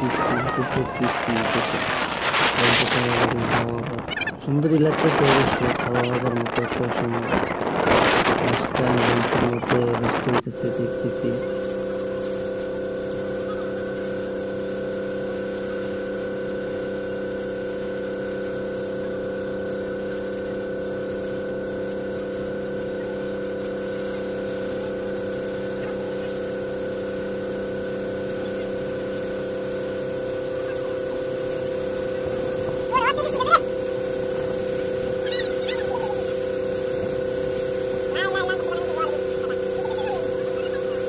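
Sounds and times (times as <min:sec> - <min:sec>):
motorboat engine humming: 0:00.0 - 0:41.0.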